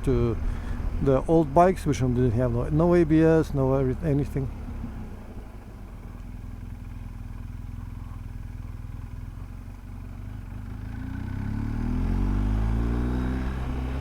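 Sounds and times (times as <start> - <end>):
motorcycle engine revving: 2.1 - 14.0.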